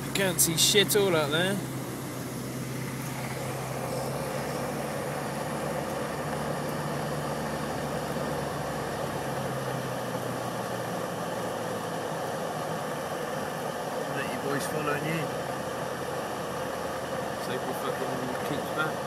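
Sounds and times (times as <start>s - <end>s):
car engine running: 0.0s - 19.0s
road and cabin hiss: 0.0s - 19.0s.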